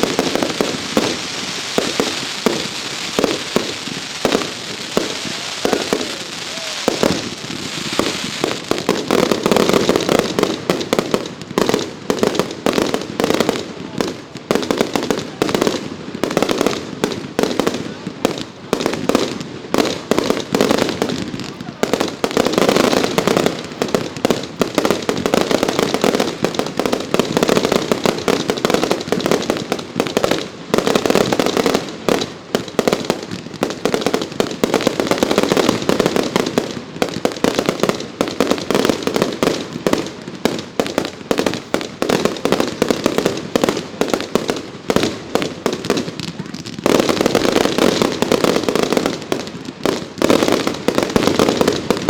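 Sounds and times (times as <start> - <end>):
fireworks barrage: 0.0 - 52.0.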